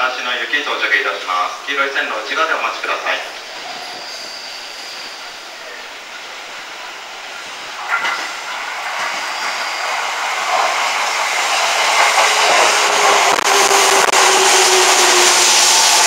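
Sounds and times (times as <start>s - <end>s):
electric train pulling in: 0.2s - 16.0s.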